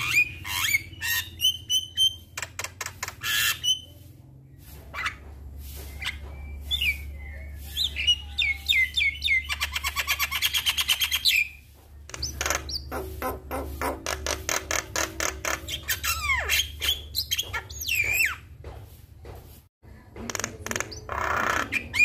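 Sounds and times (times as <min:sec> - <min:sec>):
bird singing and chattering: 0:00.0 - 0:18.4, 0:20.4 - 0:22.0.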